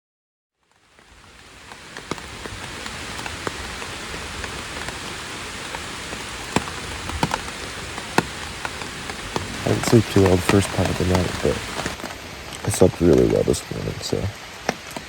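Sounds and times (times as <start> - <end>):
steady rain hissing: 0.6 - 15.0
raindrops ticking sharply: 0.8 - 15.0.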